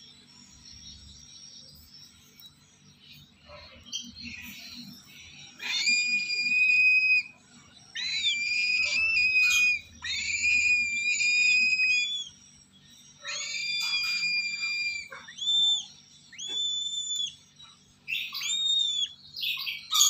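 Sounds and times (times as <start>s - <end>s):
cockatoo chicks screeching: 3.0s - 20.0s.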